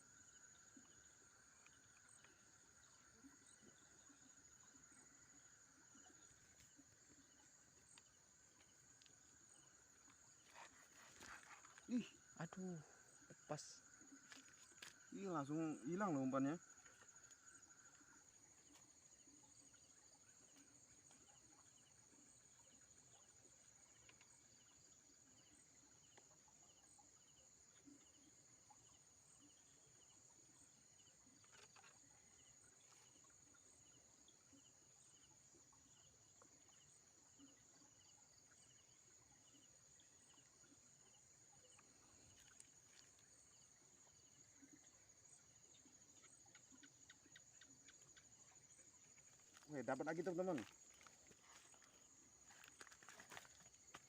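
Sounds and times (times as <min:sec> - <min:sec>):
insects trilling: 0:00.0 - 0:54.0
soft insect chirp: 0:00.0 - 0:54.0.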